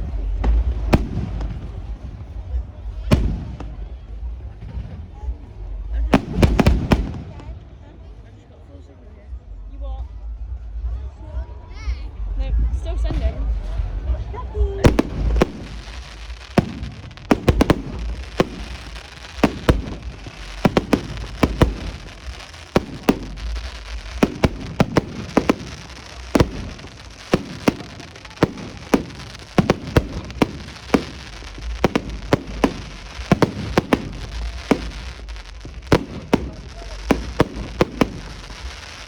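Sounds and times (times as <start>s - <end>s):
fireworks bangs and crackling pops: 0.0s - 8.2s, 13.0s - 39.0s.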